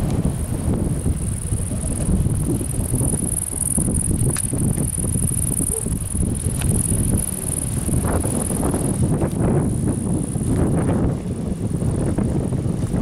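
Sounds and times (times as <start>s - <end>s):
insects chirring: 0.0s - 11.1s
wind buffeting microphone: 0.0s - 13.0s.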